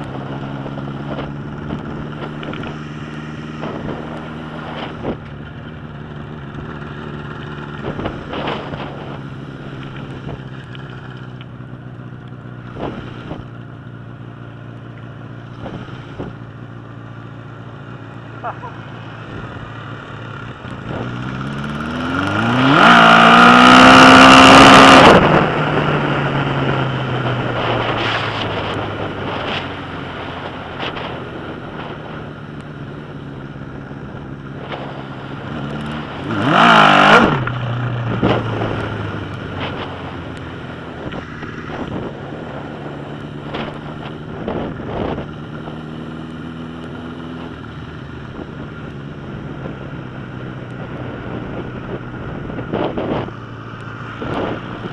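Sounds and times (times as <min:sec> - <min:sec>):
motorcycle accelerating hard: 0:00.0 - 0:54.9.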